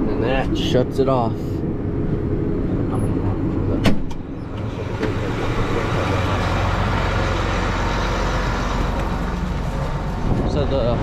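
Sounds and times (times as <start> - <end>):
tractor engine running: 1.6 - 11.0.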